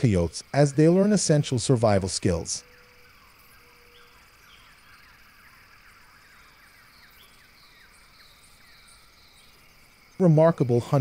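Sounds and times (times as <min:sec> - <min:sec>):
low steady hiss: 0:00.0 - 0:11.0
small birds chirping: 0:00.0 - 0:11.0.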